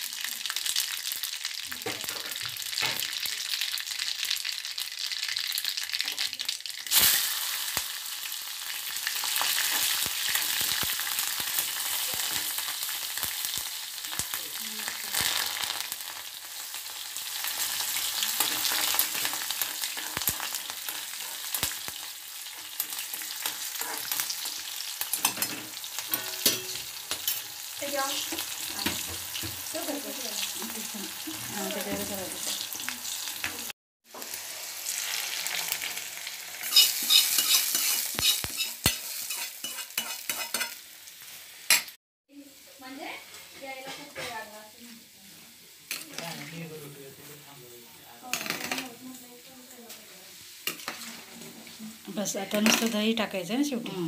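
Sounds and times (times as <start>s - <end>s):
seeds frying in hot oil: 0.0s - 53.8s.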